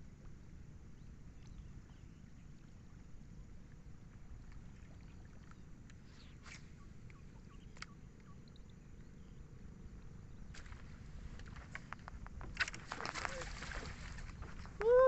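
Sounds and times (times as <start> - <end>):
rumble of water and wind: 0.0 - 15.0.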